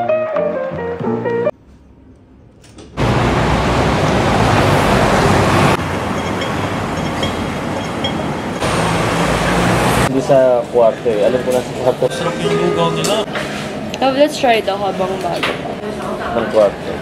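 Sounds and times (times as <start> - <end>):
street traffic: 1.5 - 17.0.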